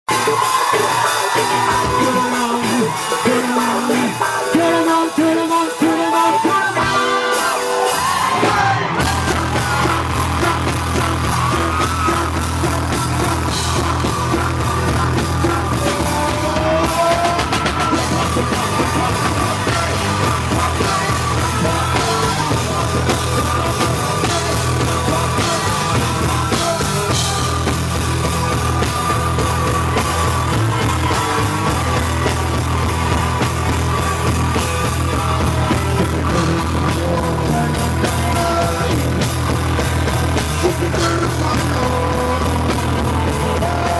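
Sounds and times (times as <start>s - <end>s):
heavy drums: 0.1s - 43.9s
live rock band playing: 0.1s - 43.9s
shouted and sung vocals: 0.1s - 43.9s.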